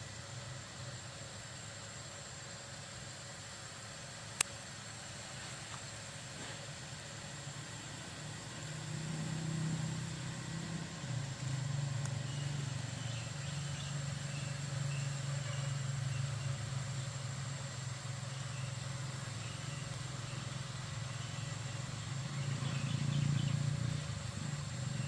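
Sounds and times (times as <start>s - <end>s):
low engine-like drone: 0.0s - 25.0s.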